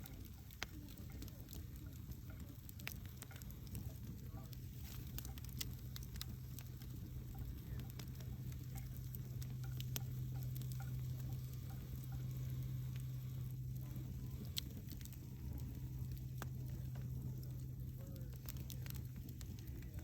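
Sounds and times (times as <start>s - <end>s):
steady low hum: 0.0s - 20.0s
wood fire crackling: 0.0s - 20.0s.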